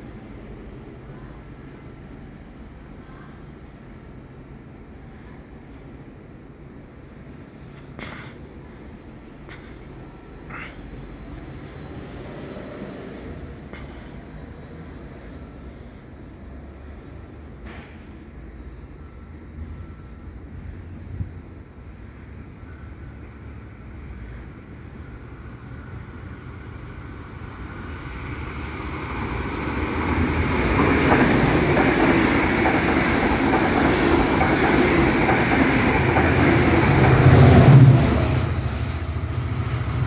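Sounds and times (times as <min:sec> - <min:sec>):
passenger train passing at speed: 0:00.0 - 0:07.7, 0:08.4 - 0:40.0.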